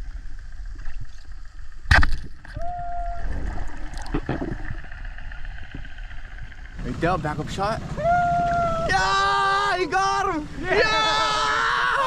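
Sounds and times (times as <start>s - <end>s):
muffled underwater water noise: 0.0s - 12.0s.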